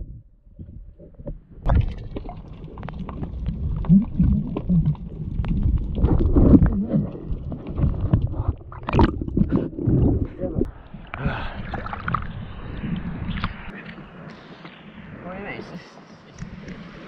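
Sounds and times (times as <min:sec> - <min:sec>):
muffled underwater water rushing: 0:00.0 - 0:15.2.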